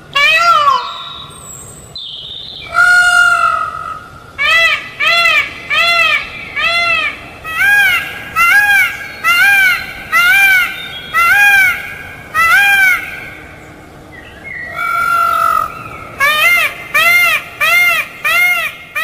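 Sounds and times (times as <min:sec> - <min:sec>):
peafowl calling: 0:00.0 - 0:01.7, 0:02.3 - 0:13.7, 0:14.3 - 0:19.0.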